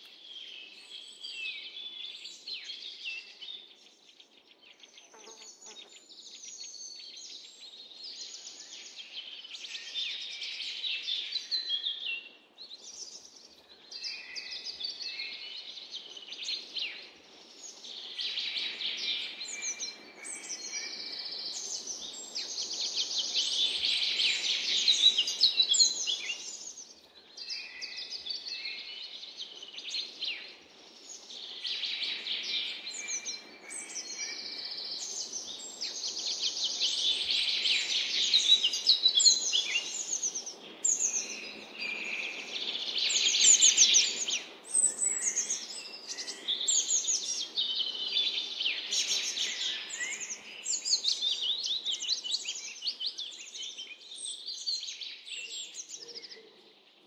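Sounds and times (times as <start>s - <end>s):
songbirds trilling and chirping: 0.0s - 57.0s.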